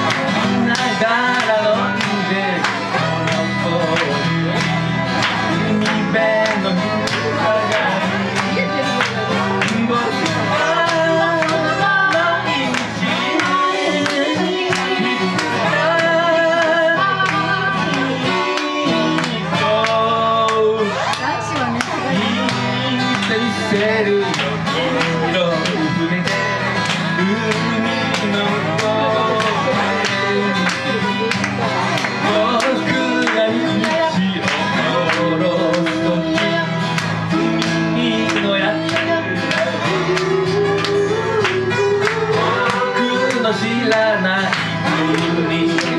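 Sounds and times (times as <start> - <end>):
acoustic guitar strumming: 0.0 - 45.9
lap guitar sliding notes: 0.0 - 45.9
man singing: 0.0 - 45.9.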